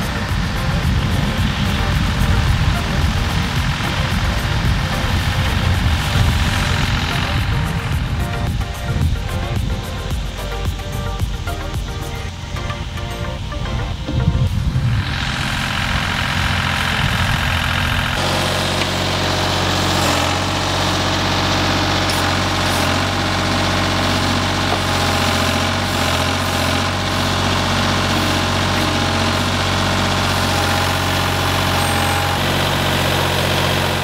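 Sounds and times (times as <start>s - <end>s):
machine engine low drone: 0.0s - 34.0s.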